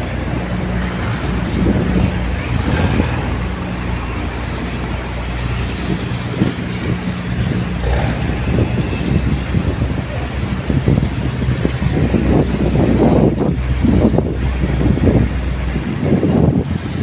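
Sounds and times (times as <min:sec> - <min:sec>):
tugboat engine droning: 0:00.0 - 0:17.0
water noise: 0:00.0 - 0:17.0
wind: 0:00.0 - 0:17.0.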